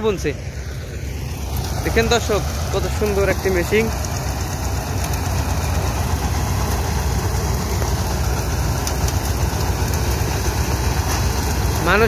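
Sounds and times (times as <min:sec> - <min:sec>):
threshing machine running: 0:00.0 - 0:12.0.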